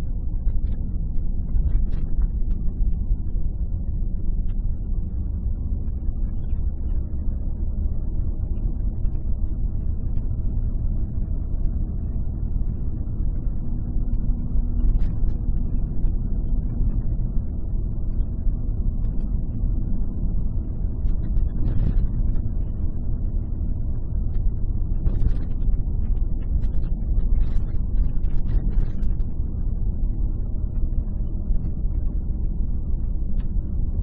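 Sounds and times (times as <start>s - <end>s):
car engine and tyre rumble: 0.0s - 34.0s
faint steady hum: 0.0s - 34.0s.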